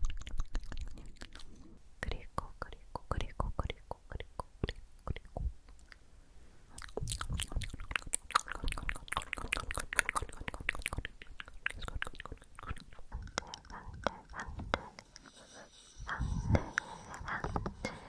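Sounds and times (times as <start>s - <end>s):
wet tongue and lip clicks: 0.0s - 6.0s, 6.7s - 15.4s.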